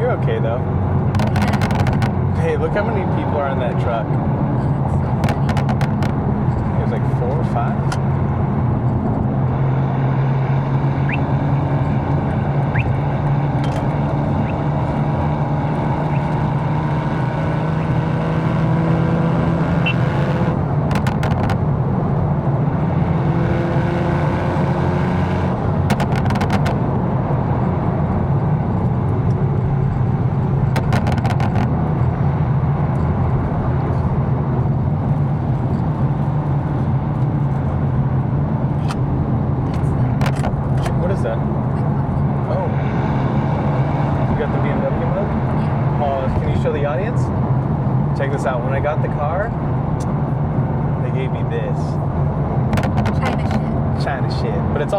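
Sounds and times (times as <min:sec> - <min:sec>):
car engine drone: 0:00.0 - 0:54.9
road and tyre noise: 0:00.0 - 0:54.9.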